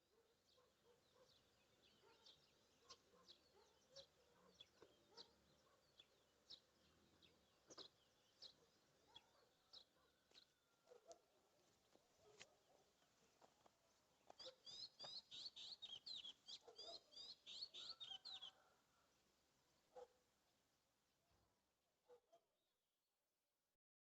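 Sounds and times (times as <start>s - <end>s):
faint bird chirping: 0.1s - 13.6s, 14.2s - 20.2s.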